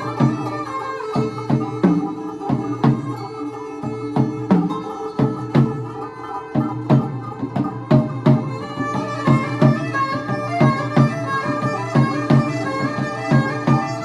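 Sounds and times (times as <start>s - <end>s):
drums striking a steady beat: 0.0s - 14.0s.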